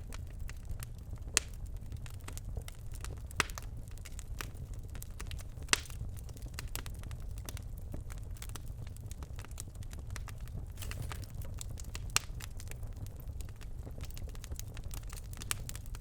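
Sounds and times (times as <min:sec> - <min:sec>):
logs crackling in a fireplace: 0:00.0 - 0:16.0.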